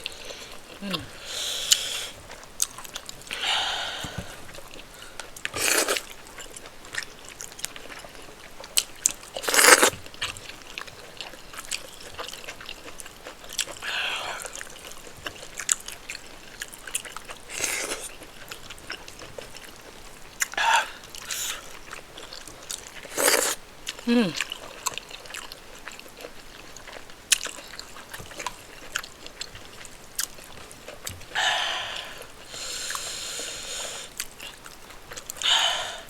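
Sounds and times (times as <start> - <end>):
wet chewing and smacking: 0.0 - 31.4, 33.8 - 35.6.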